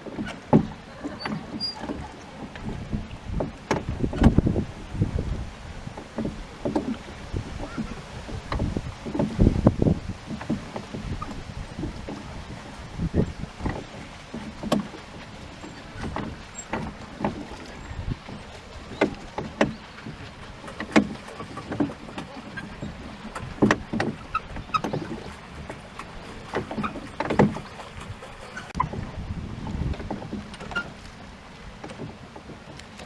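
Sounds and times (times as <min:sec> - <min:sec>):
knocks on a rowboat: 0:00.0 - 0:33.0
water splashing against a boat: 0:00.0 - 0:33.0.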